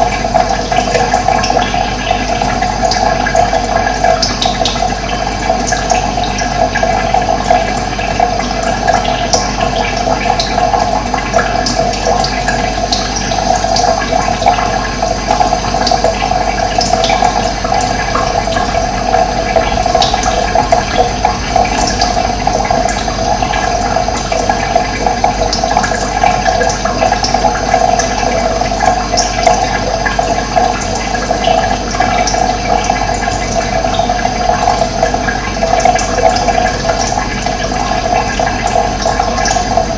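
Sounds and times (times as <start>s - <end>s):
running water gushing: 0.0s - 39.9s.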